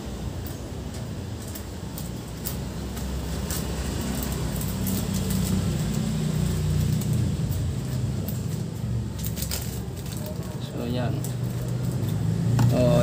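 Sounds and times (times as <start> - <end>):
plastic bags crinkling: 1.0 - 13.0.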